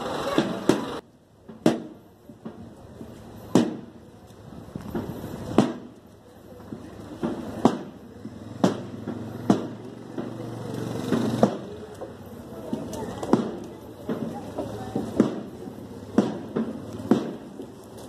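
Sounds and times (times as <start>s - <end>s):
low murmur of movement: 0.0s - 18.0s.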